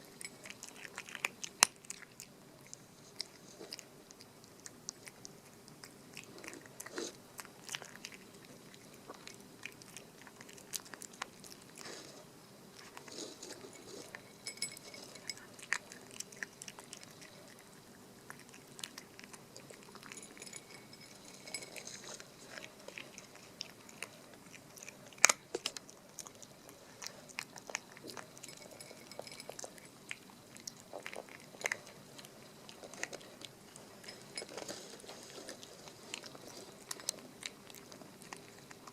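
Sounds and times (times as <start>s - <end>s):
puppy crunching dry kibble: 0.0s - 38.9s.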